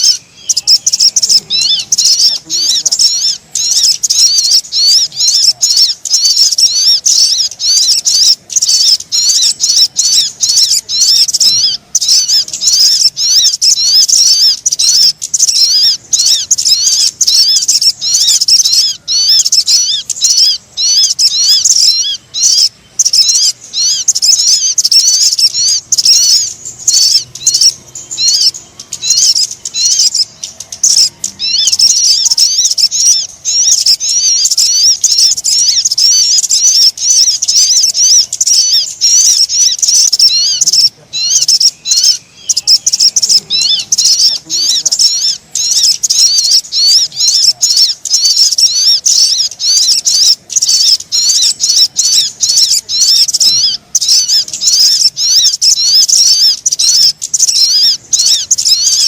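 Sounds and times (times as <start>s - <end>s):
high-pitched bird twittering: 0.0s - 59.0s.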